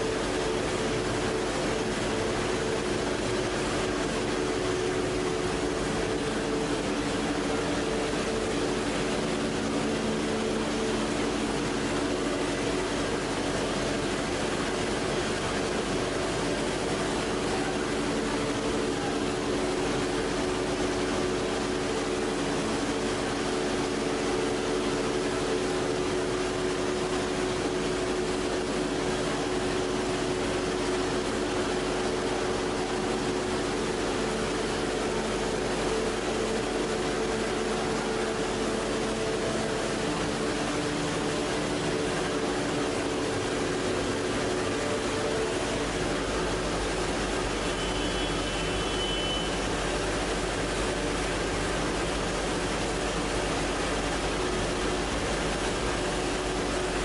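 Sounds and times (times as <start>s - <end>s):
machine hum and hiss: 0.0s - 57.0s
steady low machine tones: 0.0s - 57.0s.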